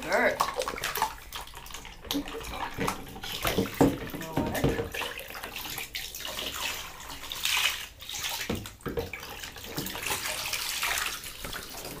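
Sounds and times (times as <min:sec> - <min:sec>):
water pouring into bathwater: 0:00.0 - 0:12.0.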